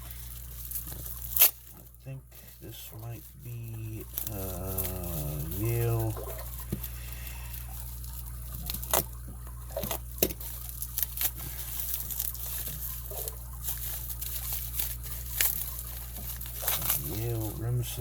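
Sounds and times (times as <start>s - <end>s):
low hum: 0.0s - 18.0s
packaging crinkling: 0.0s - 18.0s.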